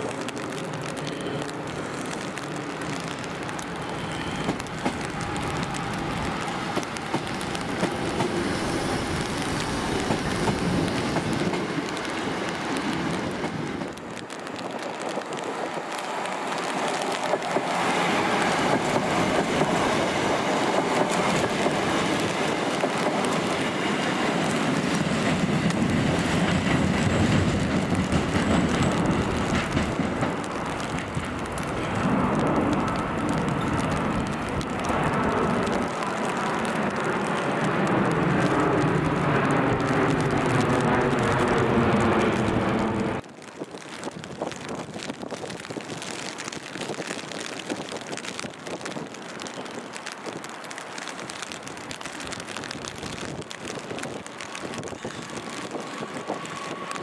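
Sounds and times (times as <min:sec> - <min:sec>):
heavy rain: 0:00.0 - 0:57.0
train wheel and rail noise: 0:00.0 - 0:57.0.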